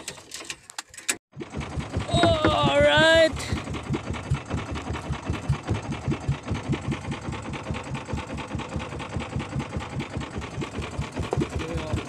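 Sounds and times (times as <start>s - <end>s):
boat engine puttering: 1.3s - 12.0s.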